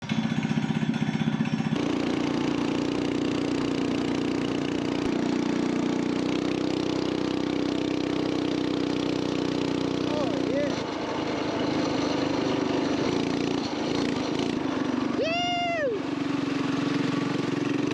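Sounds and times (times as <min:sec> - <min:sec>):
mini bike engine running: 0:00.0 - 0:17.9.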